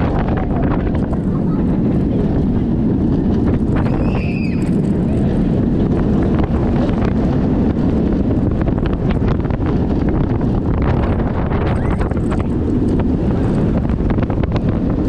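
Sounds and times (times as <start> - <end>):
roller coaster rumbling on track: 0.0 - 15.0
wind buffeting microphone: 0.0 - 15.0.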